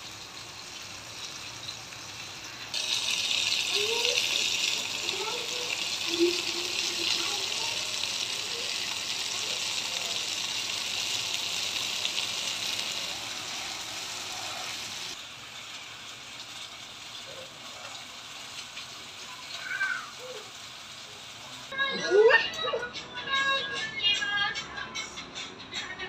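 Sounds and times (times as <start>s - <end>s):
fish sizzling in hot oil: 0.0s - 21.8s.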